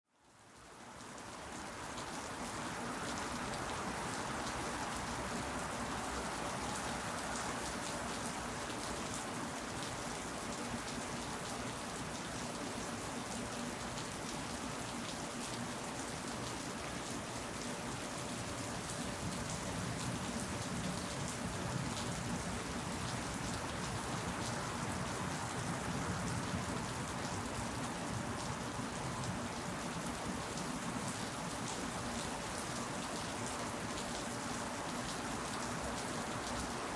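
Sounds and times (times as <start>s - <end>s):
rain falling: 0.2s - 36.9s.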